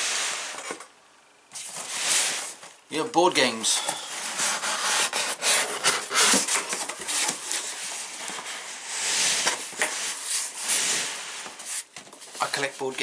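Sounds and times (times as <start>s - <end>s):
cardboard boxes scraping: 1.5s - 2.7s, 3.7s - 13.0s.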